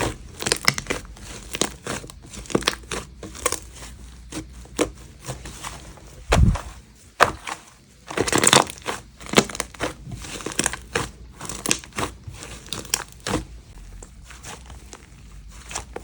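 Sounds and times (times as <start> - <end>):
crinkling and crackling by hand: 0.0 - 16.0.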